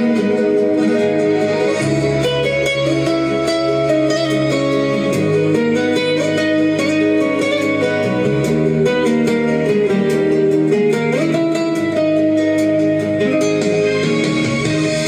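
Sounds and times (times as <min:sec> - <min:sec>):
instrumental guitar music: 0:00.0 - 0:15.0.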